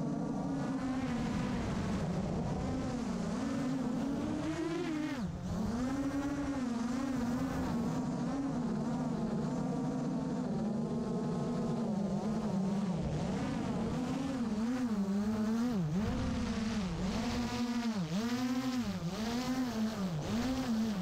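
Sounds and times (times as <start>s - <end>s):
drone motors buzzing whine: 0.0s - 21.0s.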